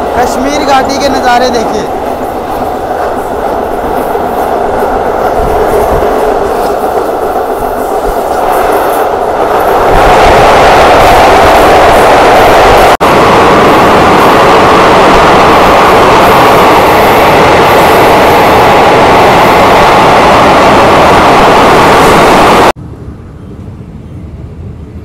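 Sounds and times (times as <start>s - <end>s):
train rushing rumble: 0.0s - 25.0s.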